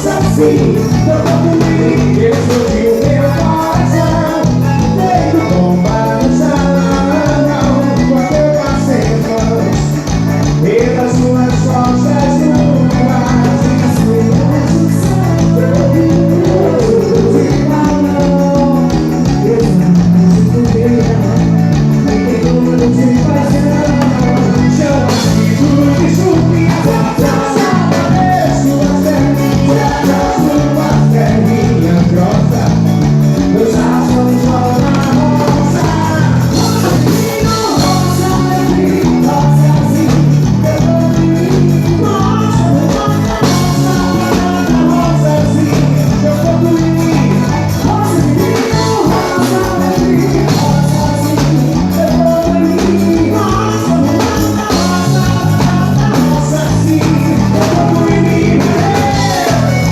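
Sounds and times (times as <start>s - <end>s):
live band playing: 0.0s - 59.9s
person singing: 0.0s - 59.9s.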